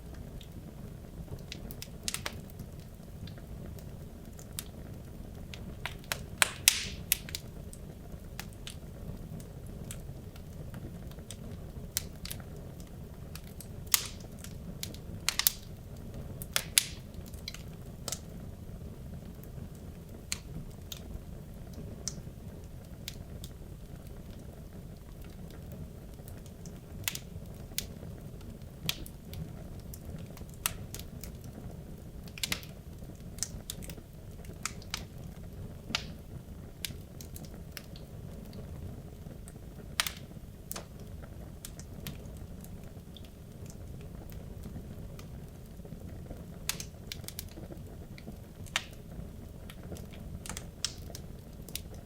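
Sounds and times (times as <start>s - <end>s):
fire rumbling: 0.0s - 52.0s
wood crackling and popping: 0.0s - 52.0s.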